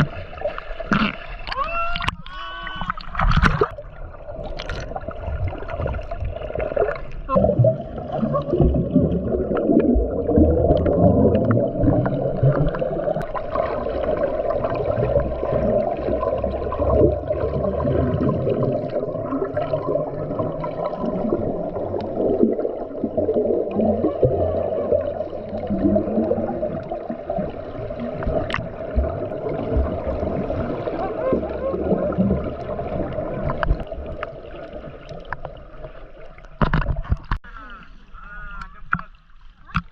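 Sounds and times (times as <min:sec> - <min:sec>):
underwater rush of water: 0:00.0 - 0:39.9
water bubbling and gurgling: 0:00.0 - 0:39.9.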